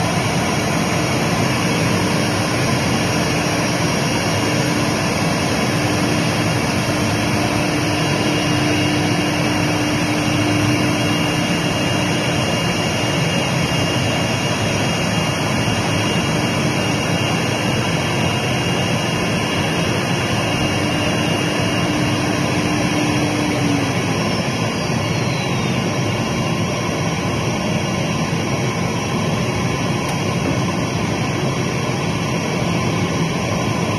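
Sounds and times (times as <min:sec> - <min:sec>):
cnc router running: 0:00.0 - 0:33.9.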